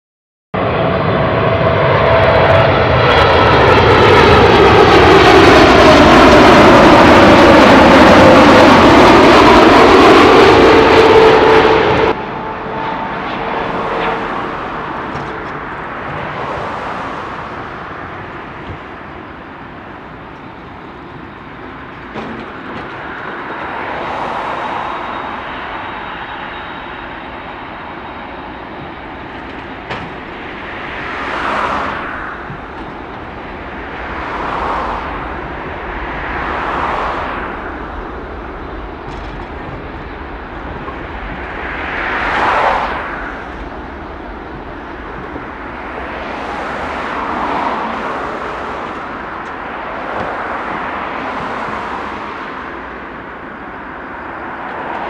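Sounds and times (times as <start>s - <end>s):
distant aircraft or traffic noise: 0.6s - 55.0s
jet engines roaring: 0.6s - 55.0s.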